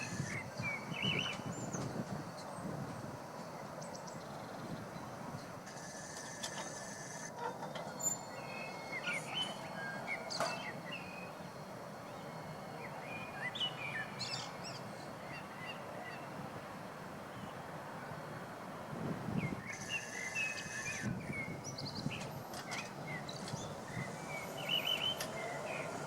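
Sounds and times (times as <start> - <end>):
birds chirping: 0.0 - 2.7, 3.4 - 16.5, 19.3 - 26.0.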